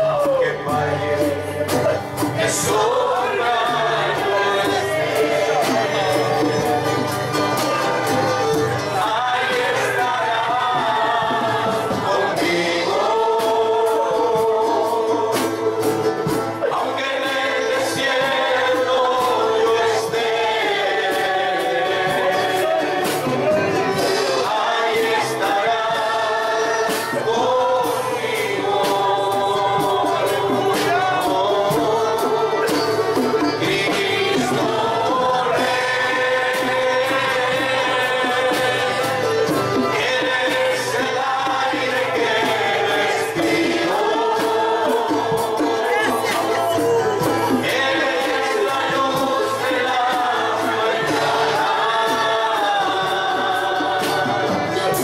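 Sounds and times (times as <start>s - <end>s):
band with light percussion: 0.0s - 55.0s
congregation singing: 0.0s - 55.0s.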